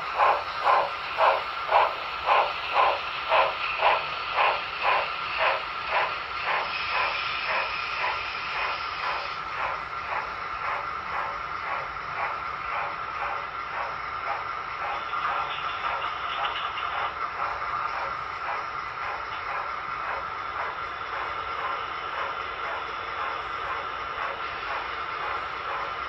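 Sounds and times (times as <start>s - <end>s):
model train whirring: 0.0s - 26.0s.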